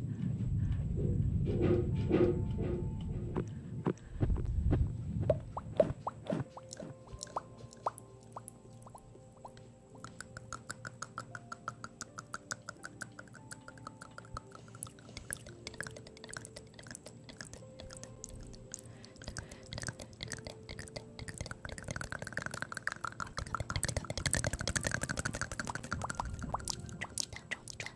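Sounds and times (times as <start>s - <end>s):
wet mouth clicks and smacks: 5.3s - 27.9s.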